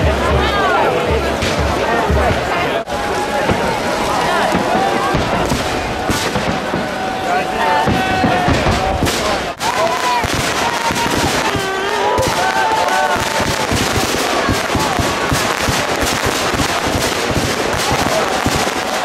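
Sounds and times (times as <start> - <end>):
crowd voices: 0.0 - 19.0
fireworks bangs and crackles: 0.0 - 19.0.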